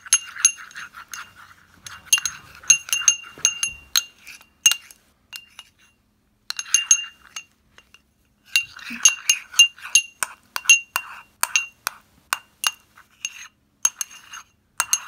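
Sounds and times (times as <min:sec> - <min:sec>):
spoon clinking on ceramic bowl: 0:00.0 - 0:15.0.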